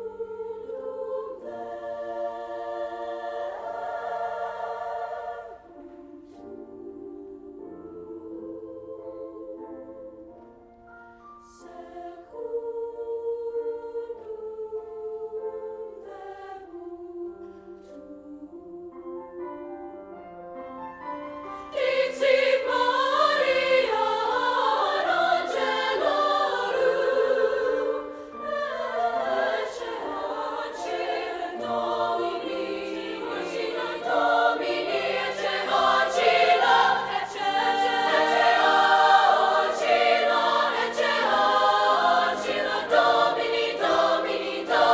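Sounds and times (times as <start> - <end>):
choir singing: 0.0 - 44.9.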